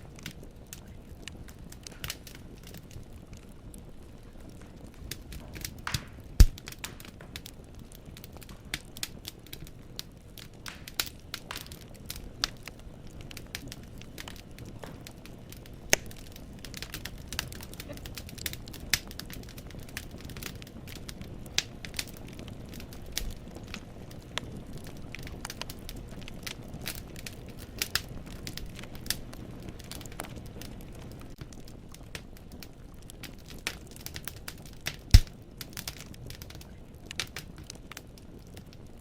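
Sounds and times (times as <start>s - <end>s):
logs crackling and popping: 0.0s - 39.0s
low rumble of flames: 0.0s - 39.0s.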